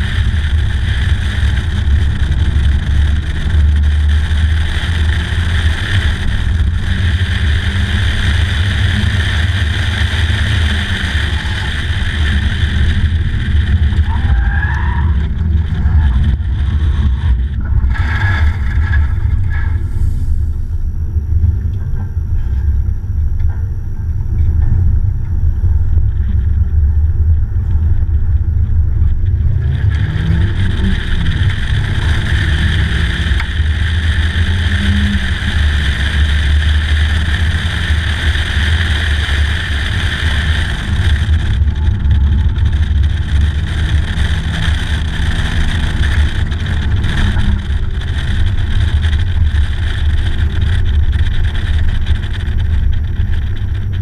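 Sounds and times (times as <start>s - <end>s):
car engine running: 0.0s - 54.0s
road noise: 0.0s - 54.0s
wind noise on microphone: 0.0s - 54.0s.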